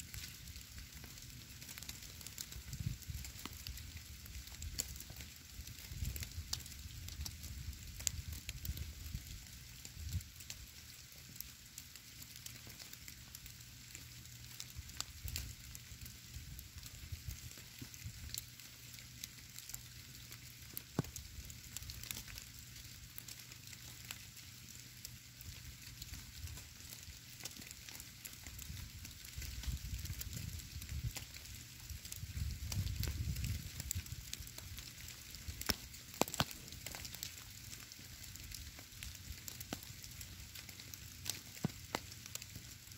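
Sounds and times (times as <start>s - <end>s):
wet snow pattering on stone: 0.0s - 42.9s.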